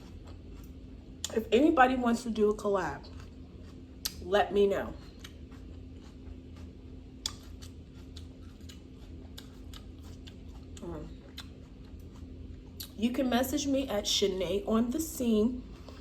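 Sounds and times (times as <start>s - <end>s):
chewing crisp salad: 0.0s - 1.6s, 2.2s - 13.5s.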